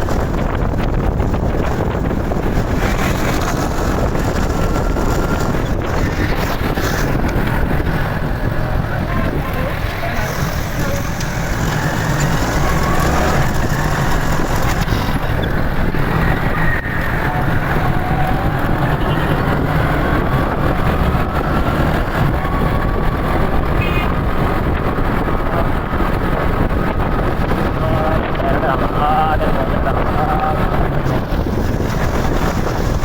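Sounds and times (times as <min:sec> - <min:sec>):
motorcycle engine: 0:00.0 - 0:33.0
road noise: 0:00.0 - 0:33.0
wind on microphone: 0:00.0 - 0:33.0.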